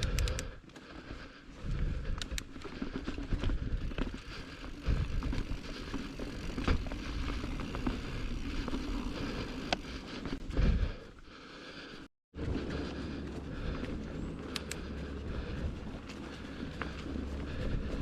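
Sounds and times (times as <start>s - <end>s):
bike clicks and rattles: 0.0s - 18.0s
bike tyre rumble: 0.0s - 18.0s.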